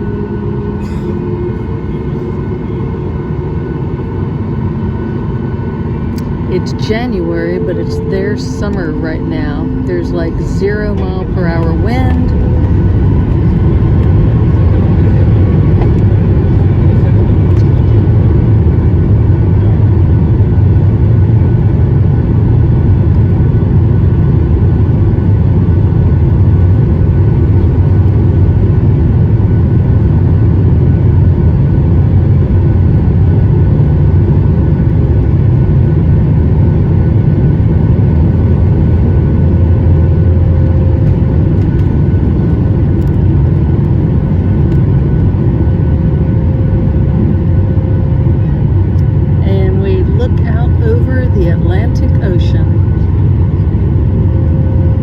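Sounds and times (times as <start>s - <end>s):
faint engine whine: 0.0s - 55.0s
jet engines roaring: 0.0s - 55.0s.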